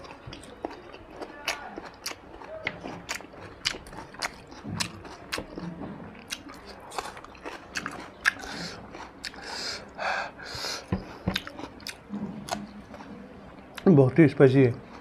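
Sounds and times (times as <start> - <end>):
man chewing food: 0.0 - 13.9, 14.7 - 15.0.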